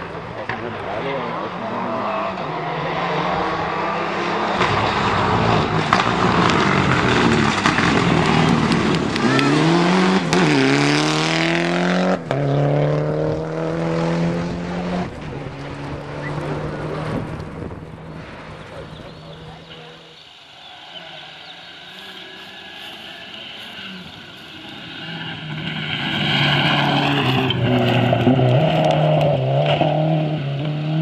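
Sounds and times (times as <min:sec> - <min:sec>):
gravel and tyre noise: 0:00.0 - 0:31.0
rally car engine revving: 0:00.0 - 0:31.0.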